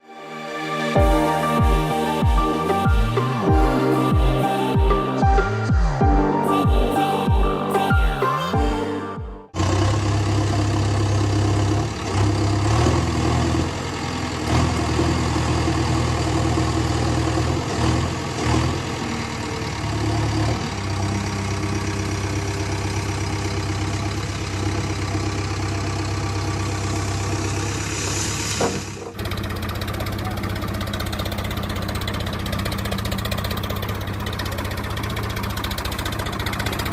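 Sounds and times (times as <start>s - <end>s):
heavy diesel engine running: 1.0s - 36.9s.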